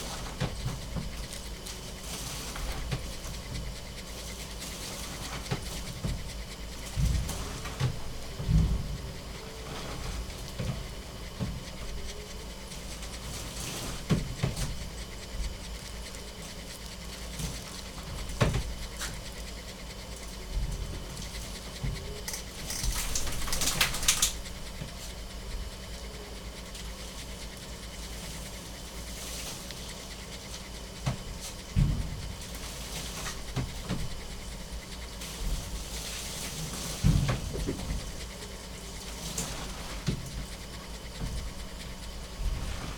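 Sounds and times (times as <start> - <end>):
dog panting: 0.0 - 42.9.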